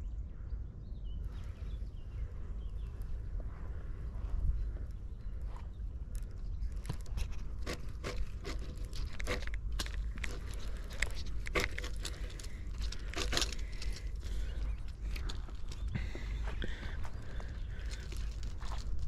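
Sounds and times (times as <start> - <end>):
footsteps on rough ground: 2.6 - 19.0.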